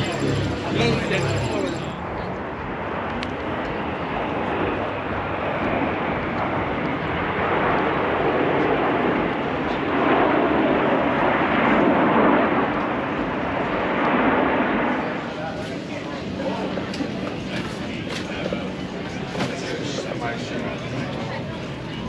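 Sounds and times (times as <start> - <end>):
aircraft flying over roaring: 0.0 - 22.0.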